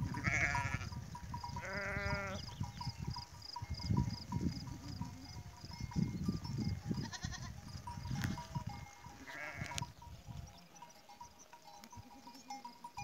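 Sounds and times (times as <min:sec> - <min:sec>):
sheep and goats bleating: 0:00.0 - 0:13.0.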